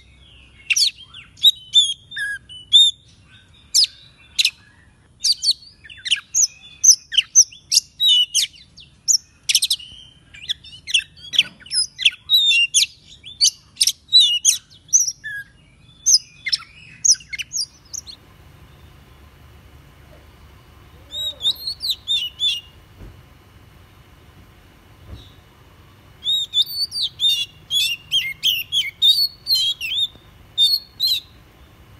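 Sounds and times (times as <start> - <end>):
bird singing whistles and chirps: 0.0 - 19.4, 20.3 - 23.8, 24.9 - 31.9.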